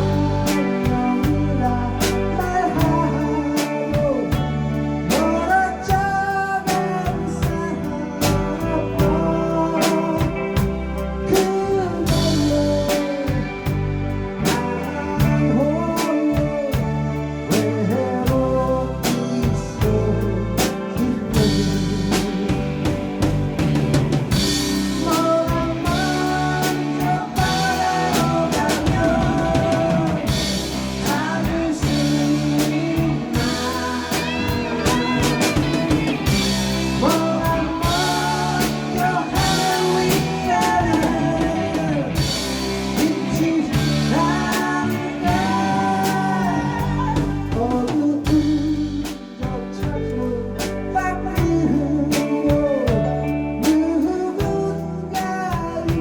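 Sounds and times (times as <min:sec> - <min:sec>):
live band playing rock ballad: 0:00.0 - 0:56.0
sliding electric guitar melody: 0:00.0 - 0:56.0.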